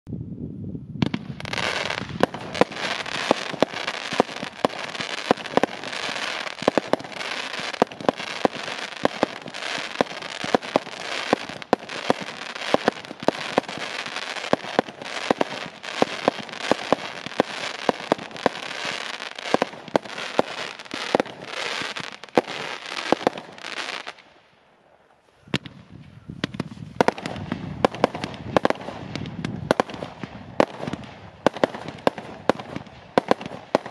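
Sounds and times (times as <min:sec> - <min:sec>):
fireworks popping and crackling: 0:01.0 - 0:24.3, 0:25.6 - 0:33.9.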